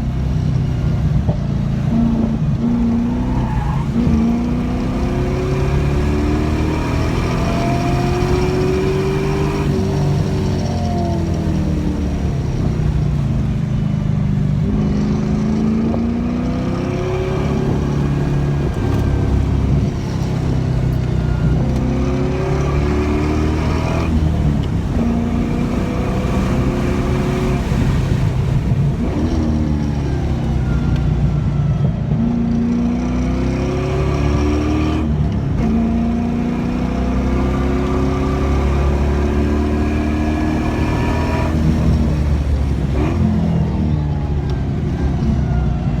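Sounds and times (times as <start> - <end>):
car engine revving through gears: 0.0 - 31.4, 32.1 - 44.2.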